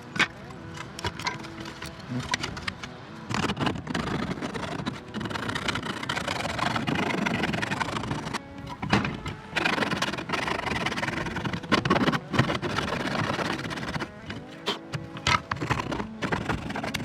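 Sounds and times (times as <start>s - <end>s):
file rasping on plastic: 0.8s - 17.0s.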